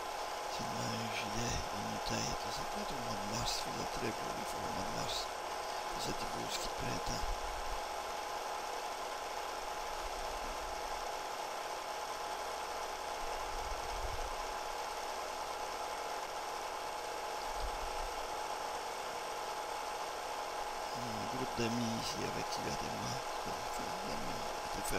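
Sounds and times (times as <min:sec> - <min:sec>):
film projector whirring: 0:00.0 - 0:24.9.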